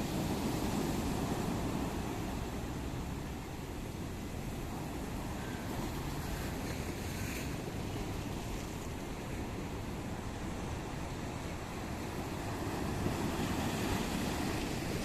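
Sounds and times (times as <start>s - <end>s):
waves washing ashore: 0.0s - 15.0s.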